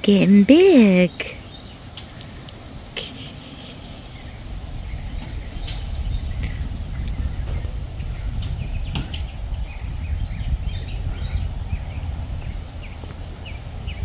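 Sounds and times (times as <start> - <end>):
wind buffeting microphone: 1.4 - 14.0.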